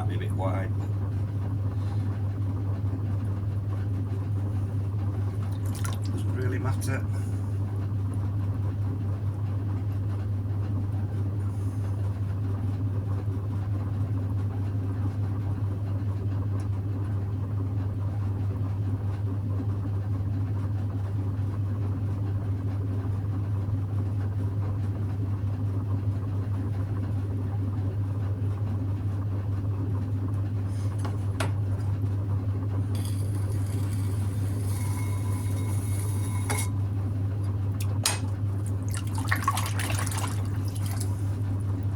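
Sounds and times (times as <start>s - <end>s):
potter's wheel humming: 0.0s - 41.9s.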